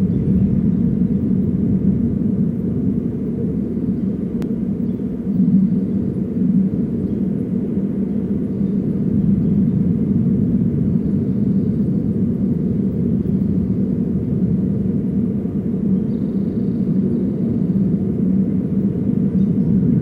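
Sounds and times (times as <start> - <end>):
low outdoor ambient rumble: 0.0 - 20.0.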